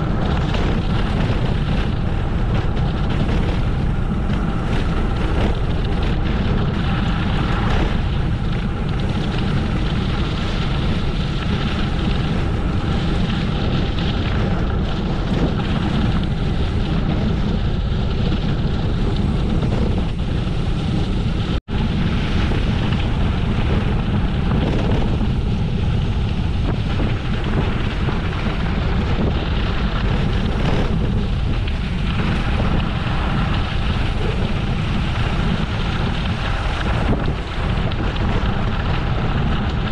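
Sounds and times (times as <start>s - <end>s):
road and riding noise: 0.0s - 39.9s
wind buffeting microphone: 0.0s - 39.9s.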